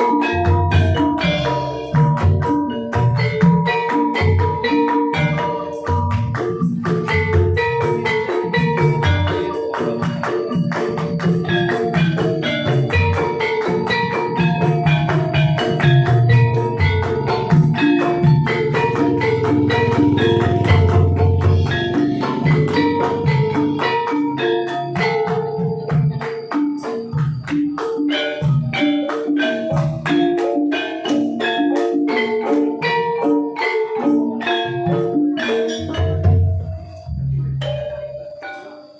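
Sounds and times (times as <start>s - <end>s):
drum strokes: 0.0s - 38.9s
gamelan metal keys struck: 0.0s - 38.9s.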